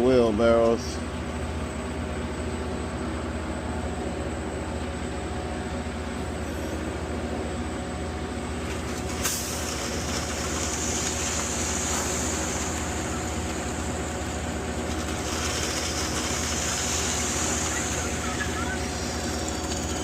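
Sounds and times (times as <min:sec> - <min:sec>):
concrete mixer truck running: 0:00.0 - 0:20.0.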